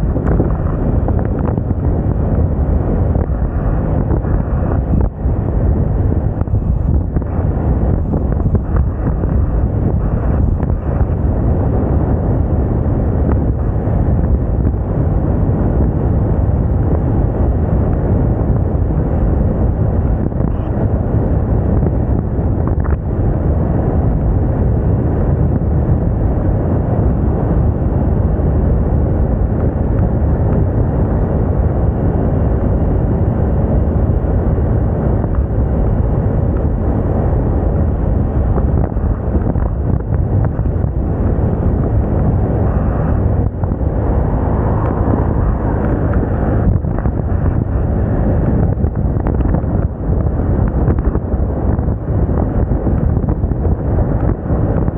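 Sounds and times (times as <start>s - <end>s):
road and engine noise: 0.0s - 54.9s
wind rushing over microphone: 0.0s - 54.9s.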